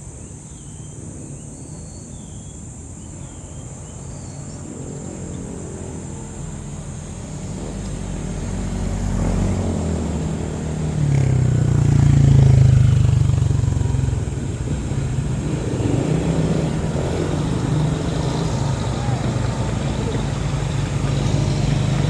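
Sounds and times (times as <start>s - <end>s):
insects humming: 0.0s - 22.0s
vehicle engine passing by: 3.2s - 22.0s.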